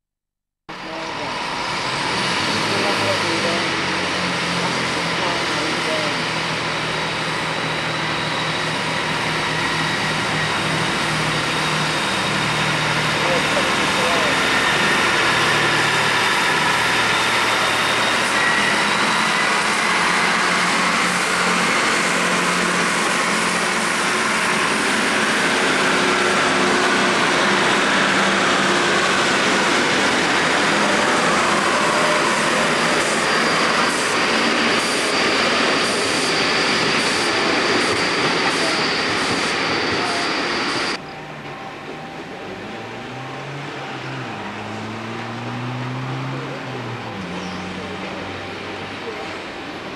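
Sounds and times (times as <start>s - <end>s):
diesel train passing: 0.7s - 49.9s
engine with shifting pitch: 0.7s - 49.9s.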